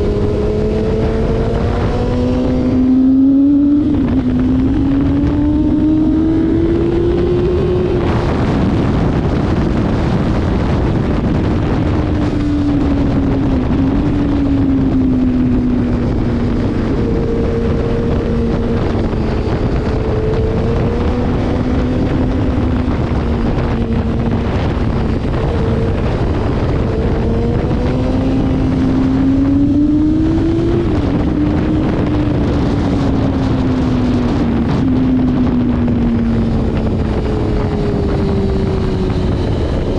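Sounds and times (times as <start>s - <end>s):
motorcycle engine revving: 0.0s - 39.9s
wind noise on microphone: 0.0s - 39.9s.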